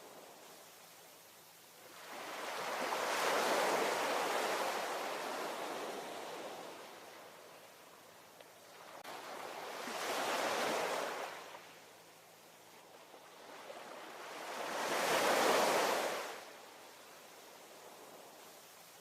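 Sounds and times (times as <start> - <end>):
ocean waves breaking on shore: 1.7 - 12.0, 12.6 - 19.0.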